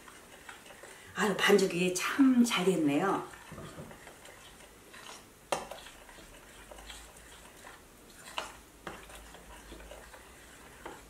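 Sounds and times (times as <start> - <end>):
batter stirring swish: 0.0 - 11.0.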